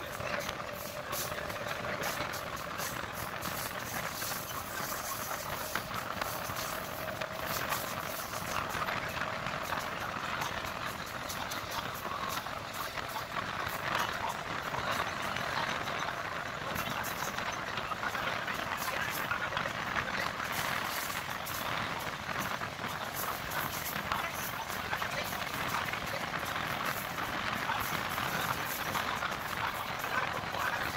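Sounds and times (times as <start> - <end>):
train wheels on rails: 0.0 - 30.9.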